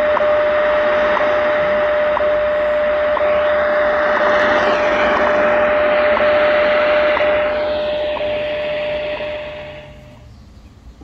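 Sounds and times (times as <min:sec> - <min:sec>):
shortwave radio hiss: 0:00.0 - 0:10.4
steady audio tone: 0:00.0 - 0:10.9.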